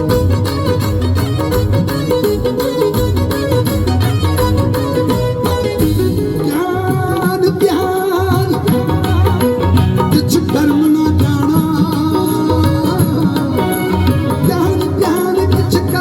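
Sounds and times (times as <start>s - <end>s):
live folk music: 0.0s - 16.0s.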